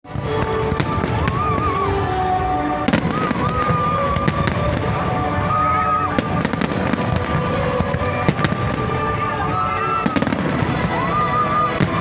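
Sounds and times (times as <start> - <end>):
music: 0.0 - 12.0
fireworks bursts and bangs: 0.1 - 12.0.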